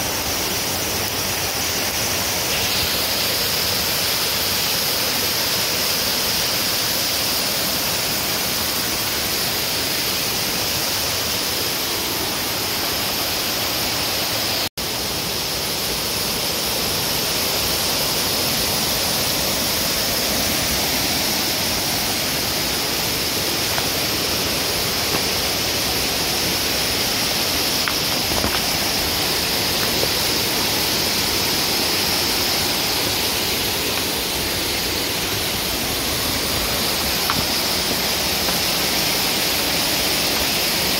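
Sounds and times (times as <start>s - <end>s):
waterfall and creek rushing: 0.0s - 40.9s.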